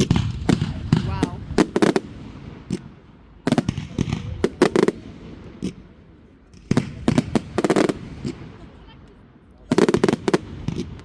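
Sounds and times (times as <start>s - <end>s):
fireworks crackling bangs: 0.0s - 9.0s, 9.6s - 11.0s.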